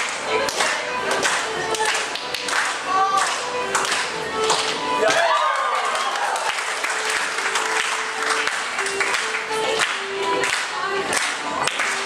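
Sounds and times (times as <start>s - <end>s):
folk dance music: 0.0s - 12.0s
hand clapping: 0.0s - 12.0s.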